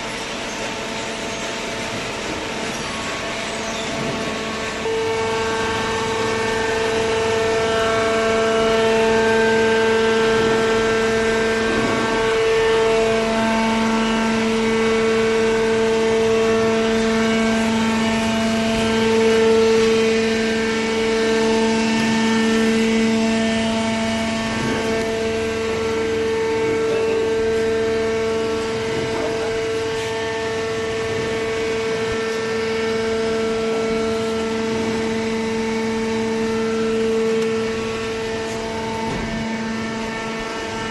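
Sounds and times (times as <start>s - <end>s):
baler machine humming: 0.0s - 40.9s.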